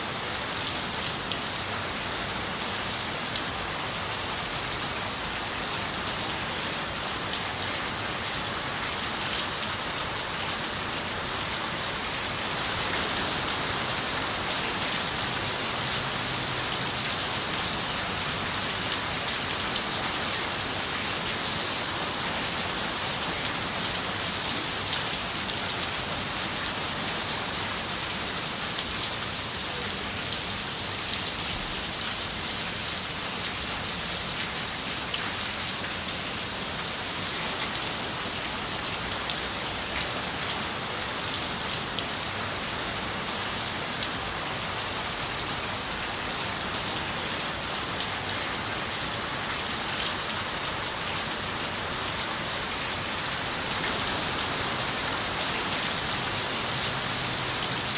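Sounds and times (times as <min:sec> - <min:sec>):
rain on a window: 0:06.9 - 0:57.9.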